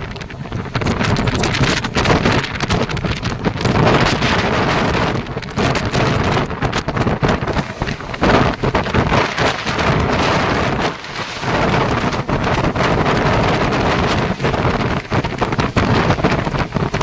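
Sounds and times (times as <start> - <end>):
moving passenger train: 0.0 - 17.0
wind buffeting microphone: 0.0 - 17.0.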